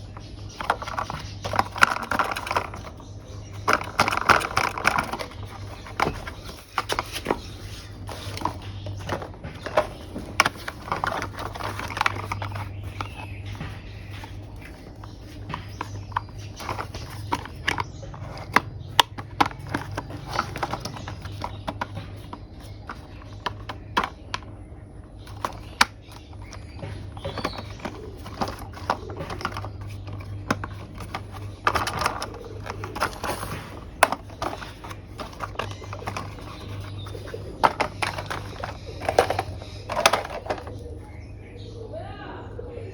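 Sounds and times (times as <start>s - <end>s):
plastic toy parts clicking: 0.2s - 13.2s, 14.2s - 24.6s, 25.2s - 40.8s.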